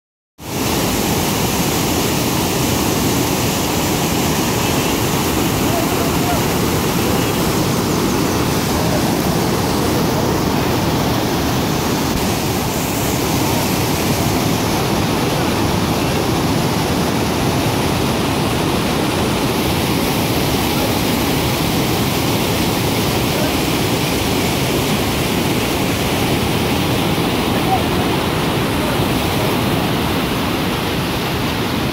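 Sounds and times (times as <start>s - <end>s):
river rapids rushing: 0.4s - 31.9s.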